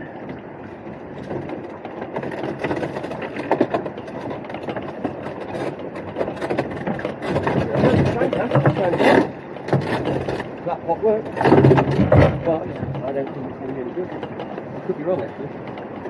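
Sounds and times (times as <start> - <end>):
boat engine idling: 0.0 - 16.0.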